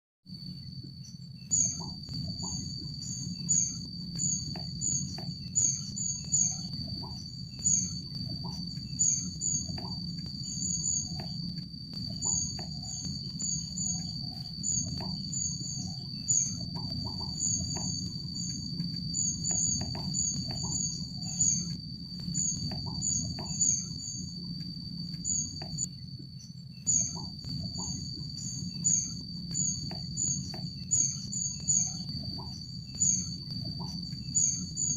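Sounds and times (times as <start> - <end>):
high-pitched insect drone: 0.3 - 34.9
low steady rumble: 0.3 - 34.9.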